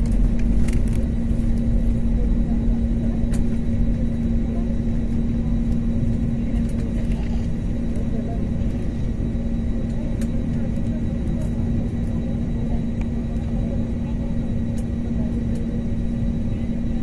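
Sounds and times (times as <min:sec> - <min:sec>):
jet engines at takeoff power: 0:00.0 - 0:17.0
steady hum: 0:00.0 - 0:17.0.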